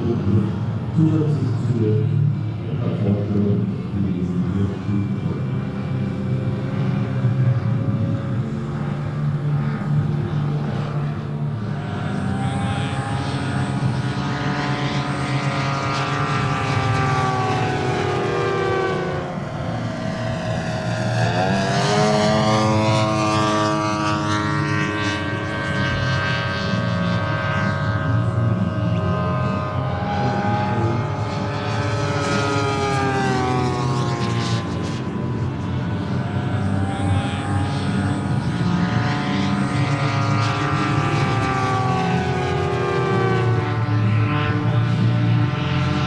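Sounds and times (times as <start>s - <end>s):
model aircraft turbine whine: 0.0s - 46.0s.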